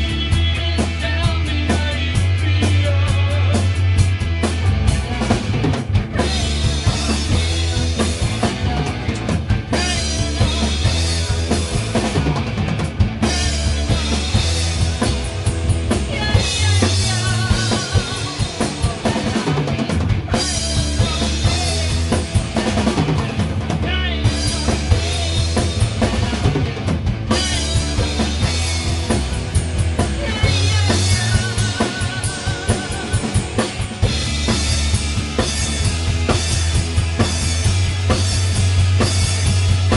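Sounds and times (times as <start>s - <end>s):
drum kit steady beat: 0.0s - 39.9s
electric guitars: 0.0s - 39.9s.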